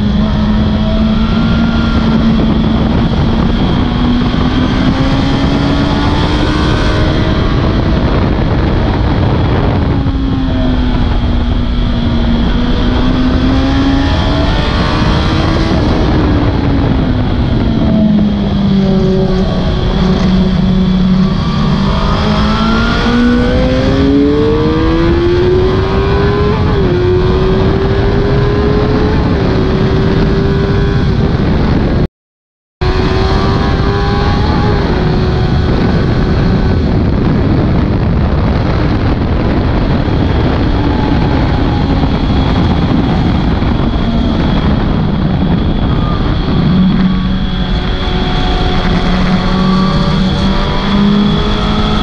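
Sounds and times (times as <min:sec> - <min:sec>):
motorcycle engine at speed: 0:00.0 - 0:32.1, 0:32.8 - 0:52.0
wind rush: 0:00.0 - 0:32.1, 0:32.8 - 0:52.0.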